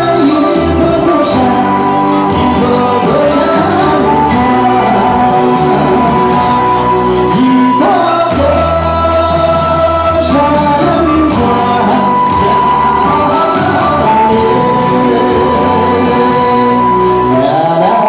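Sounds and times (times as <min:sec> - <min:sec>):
amplified backing music: 0:00.0 - 0:18.0
man singing into microphone: 0:00.0 - 0:18.0.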